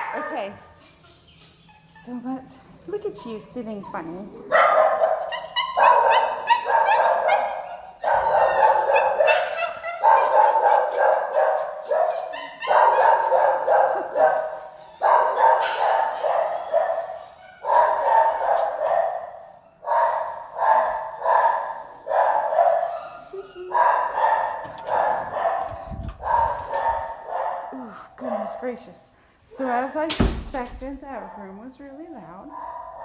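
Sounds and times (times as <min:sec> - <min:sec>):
many dogs barking: 0:00.0 - 0:00.8, 0:03.2 - 0:28.8, 0:32.3 - 0:33.0.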